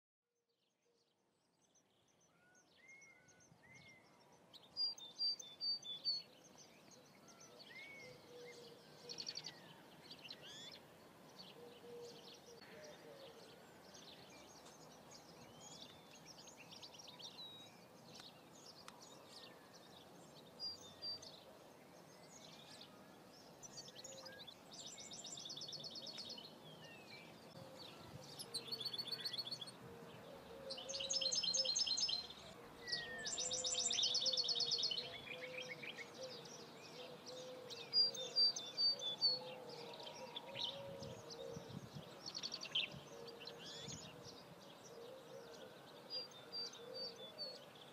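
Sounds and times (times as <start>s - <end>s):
birds chirping and singing: 2.3s - 47.9s.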